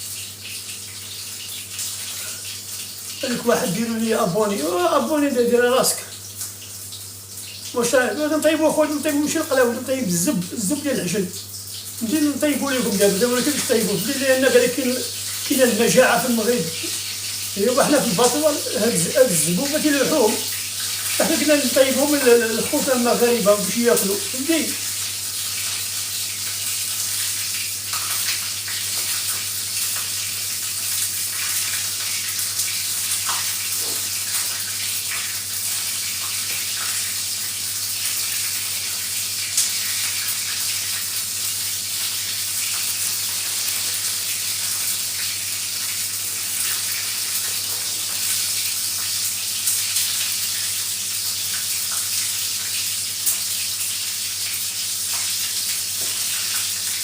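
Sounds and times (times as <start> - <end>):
food sizzling in a pan: 0.0 - 3.9, 5.6 - 57.0.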